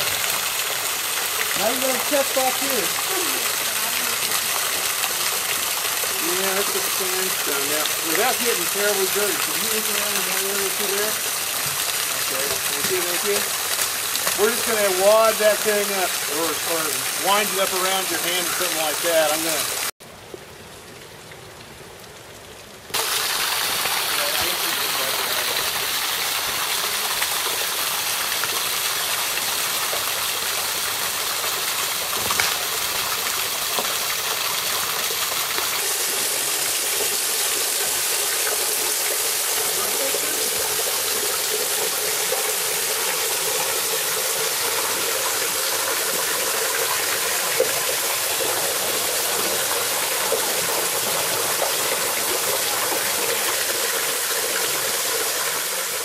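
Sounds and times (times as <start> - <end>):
small waterfall rushing: 0.0 - 20.0, 22.9 - 56.0.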